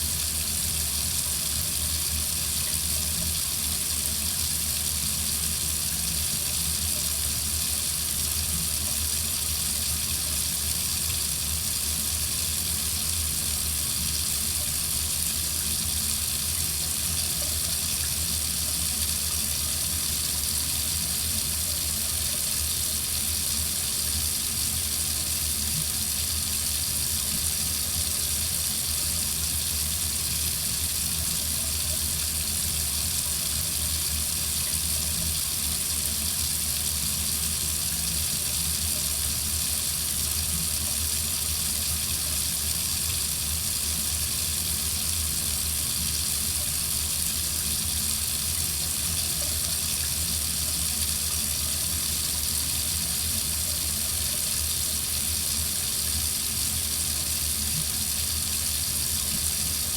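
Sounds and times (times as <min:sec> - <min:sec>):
water running from a faucet: 0:00.0 - 0:59.9.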